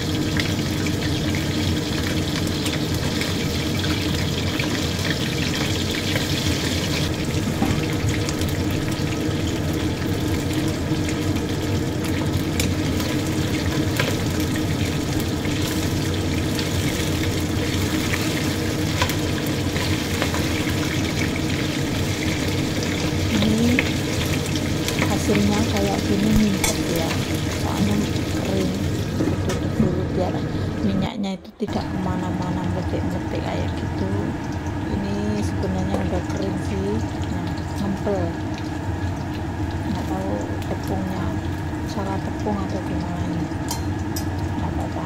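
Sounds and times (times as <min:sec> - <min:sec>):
oil sizzling and popping: 0:00.0 - 0:31.0, 0:31.7 - 0:45.0.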